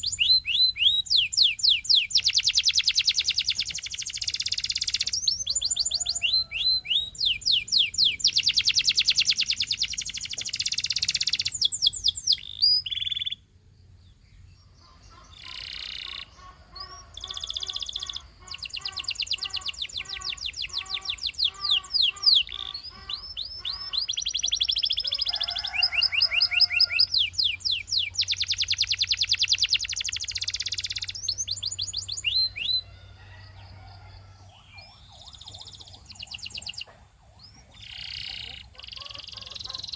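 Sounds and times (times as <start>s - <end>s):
canary singing: 0.0s - 13.5s, 14.1s - 39.9s.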